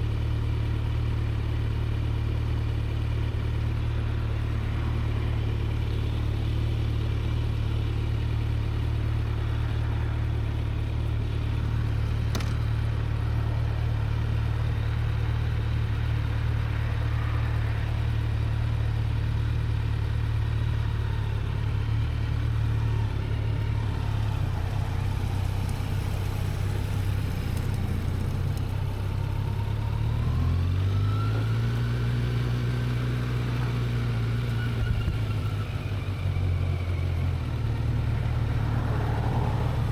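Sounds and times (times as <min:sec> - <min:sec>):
motorcycle engine revving: 0:02.4 - 0:39.9.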